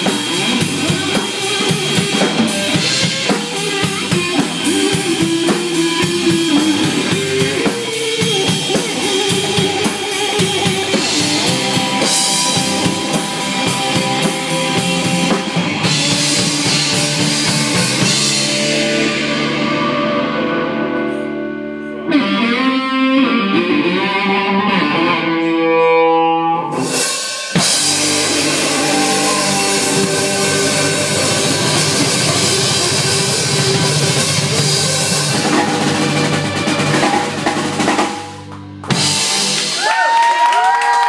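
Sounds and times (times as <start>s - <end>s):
drum kit: 0.0s - 25.2s, 26.7s - 41.0s
electric guitar: 0.0s - 41.0s.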